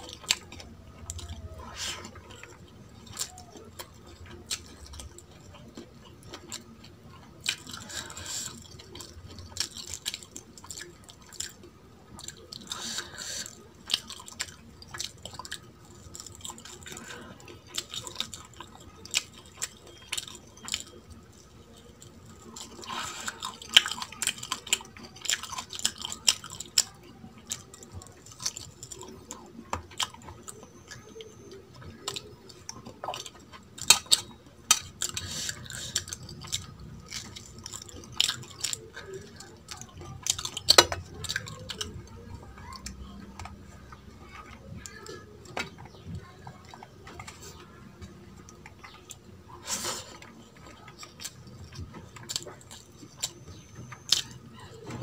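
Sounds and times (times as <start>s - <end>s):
close chewing with wet clicks: 0.0s - 55.0s
food crunching: 0.0s - 55.0s.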